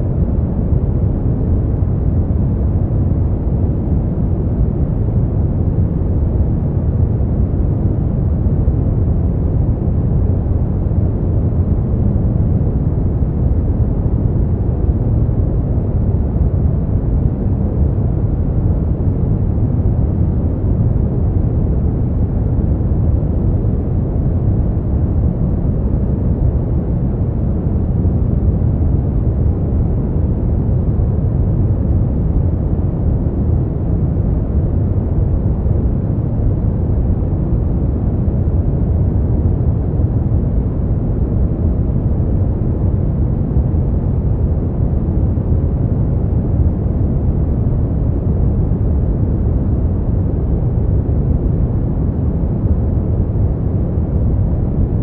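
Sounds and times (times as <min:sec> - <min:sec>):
deep rumbling brown noise: 0:00.0 - 0:55.0.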